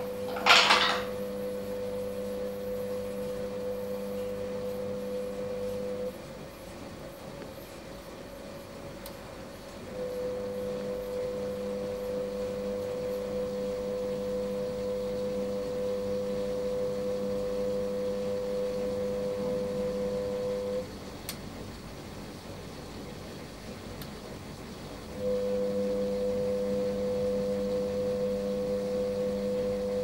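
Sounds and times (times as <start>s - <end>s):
steady humming tone: 0.0s - 22.0s, 25.0s - 30.0s.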